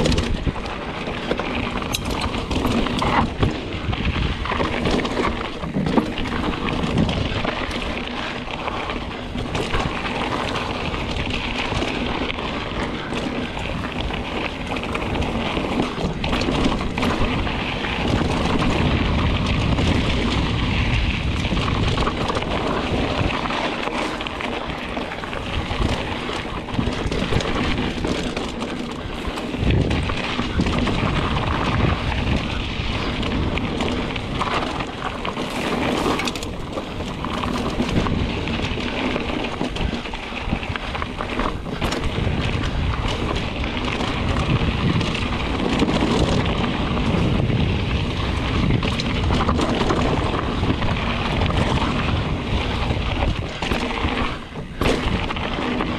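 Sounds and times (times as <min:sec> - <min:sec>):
bike rattling over bumps: 0:00.0 - 0:55.9
bike tyres rolling over dirt: 0:00.0 - 0:55.9
wind rush on microphone: 0:00.0 - 0:55.9.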